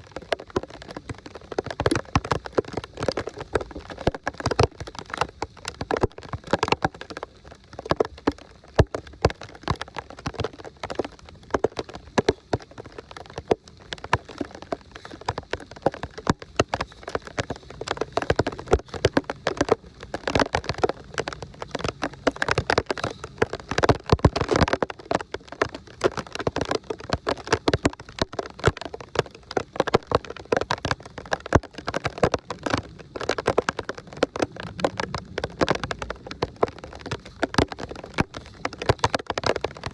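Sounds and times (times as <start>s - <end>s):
heavy rain pattering: 0.0s - 39.9s
sharp clicks and knocks: 0.1s - 39.9s.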